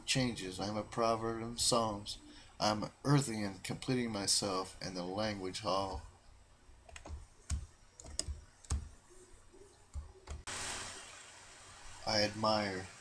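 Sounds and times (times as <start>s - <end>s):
steady hiss: 0.0s - 9.7s, 10.3s - 13.0s.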